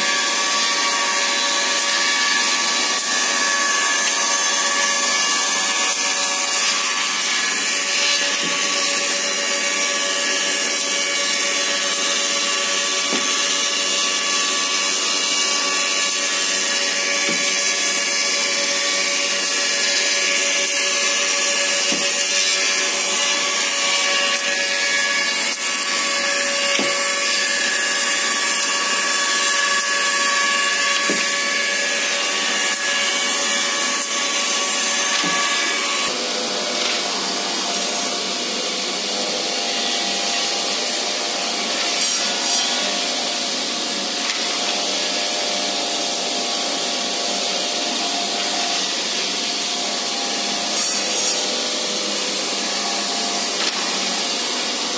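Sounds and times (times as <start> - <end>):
woodworking machinery running: 0.0 - 54.9.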